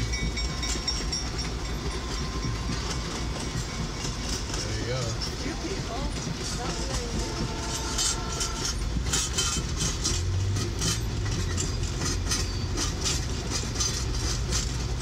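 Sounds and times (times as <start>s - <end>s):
low train rumble: 0.0s - 15.0s
train wheels clacking on rail joints: 0.0s - 15.0s.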